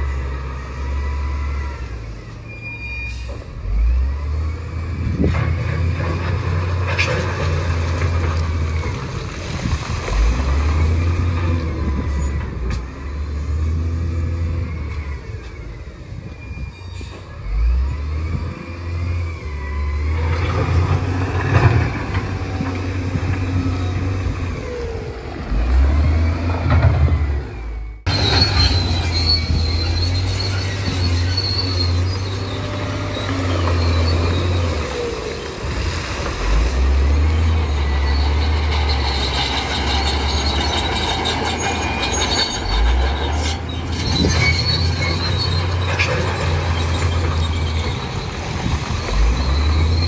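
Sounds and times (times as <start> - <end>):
bulldozer engine under load: 0.0 - 50.0
steel tracks squealing and clanking: 0.7 - 50.0.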